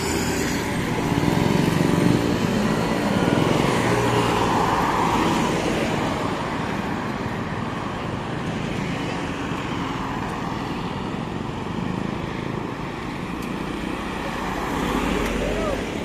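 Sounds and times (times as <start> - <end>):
vehicles passing at speed: 0.0 - 16.0.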